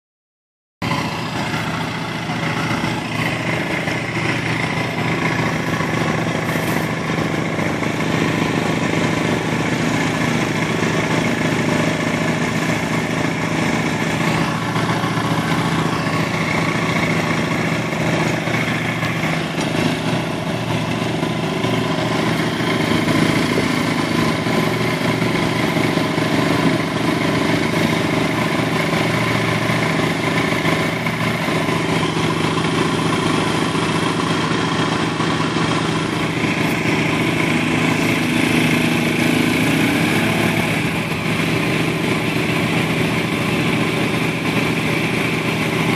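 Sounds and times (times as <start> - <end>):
vehicle engine idling: 0.8 - 45.9.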